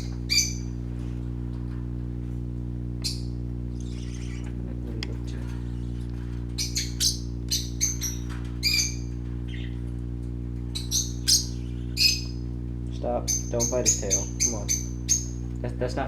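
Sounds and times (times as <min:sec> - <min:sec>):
parakeets chirping: 0:00.0 - 0:01.7, 0:03.0 - 0:16.0
steady low hum: 0:00.0 - 0:16.0.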